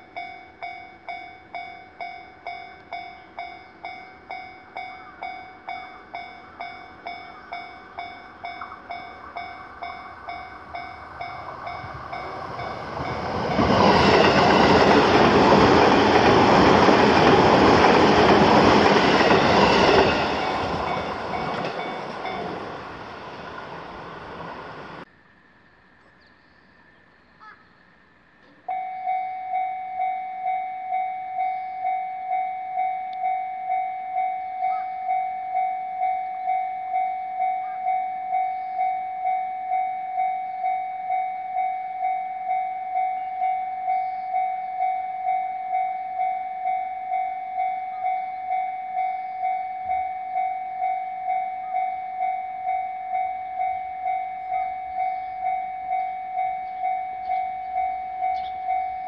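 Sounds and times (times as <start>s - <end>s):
level crossing alarm ringing: 0.0s - 25.1s, 28.7s - 59.0s.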